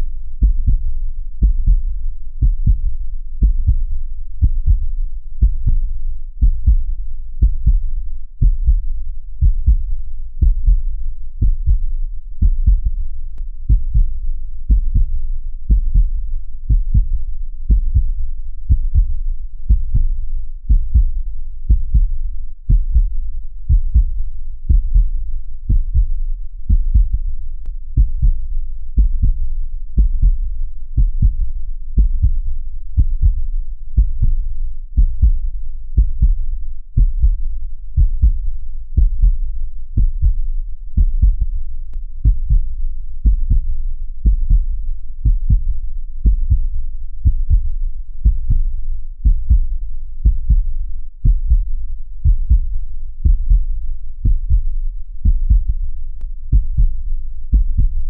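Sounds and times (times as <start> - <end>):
heartbeat lub-dub: 0.0 - 58.0.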